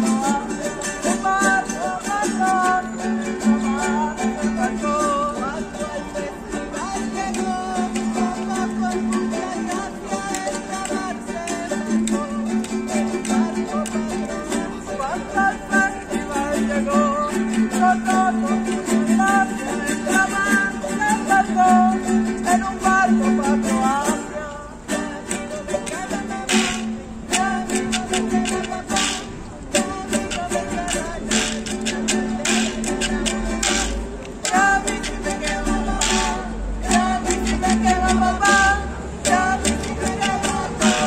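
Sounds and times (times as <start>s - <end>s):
small guitar strummed: 0.0s - 41.0s.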